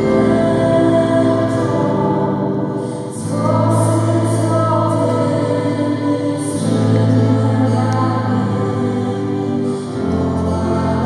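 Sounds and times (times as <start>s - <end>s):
guitar: 0.0s - 11.0s
keyboard chords: 0.0s - 11.0s
woman singing into a microphone: 0.0s - 11.0s.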